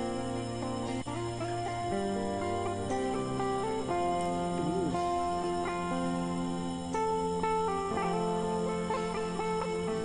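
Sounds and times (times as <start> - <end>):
plucked guitar melody: 0.0 - 10.0.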